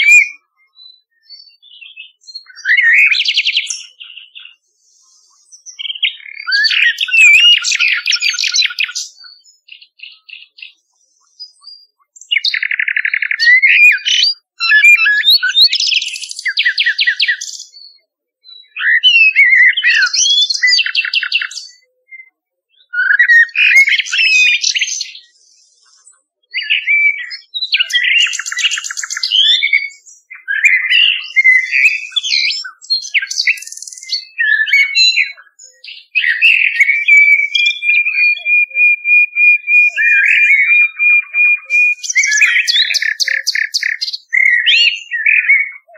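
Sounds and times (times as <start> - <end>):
nightingale singing: 0.0 - 45.9.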